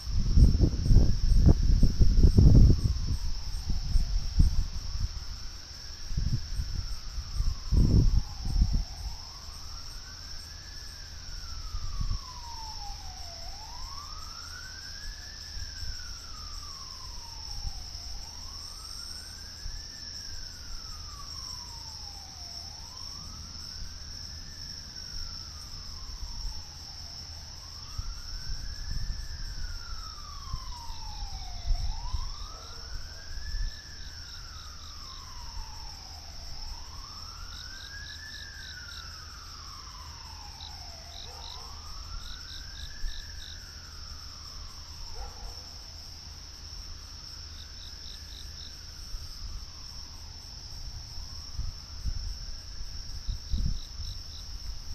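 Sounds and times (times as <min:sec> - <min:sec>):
insects chirring: 0:00.0 - 0:54.9
warning siren wailing: 0:00.2 - 0:54.9.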